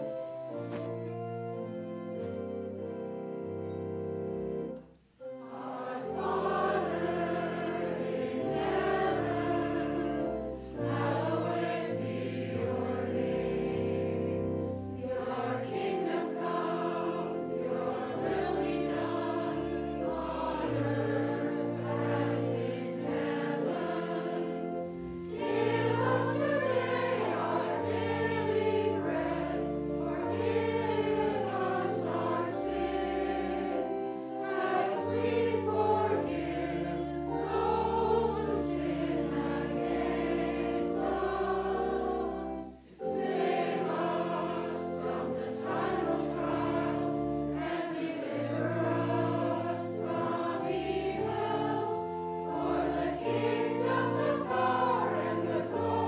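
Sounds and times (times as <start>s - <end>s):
church organ: 0.0s - 56.0s
voices singing together: 5.3s - 56.0s.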